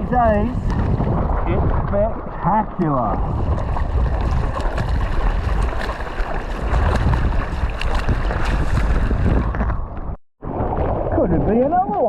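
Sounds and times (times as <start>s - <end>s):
wind buffeting microphone: 0.0s - 11.6s
sea water splashing: 0.0s - 12.0s.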